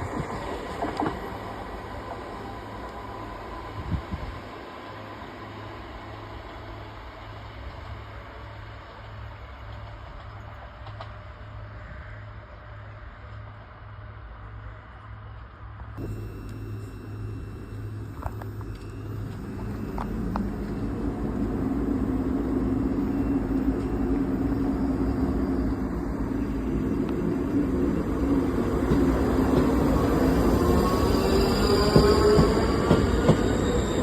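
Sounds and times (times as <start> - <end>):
passenger train rumble: 0.0 - 34.0
whine of wheels and motors: 0.0 - 34.0.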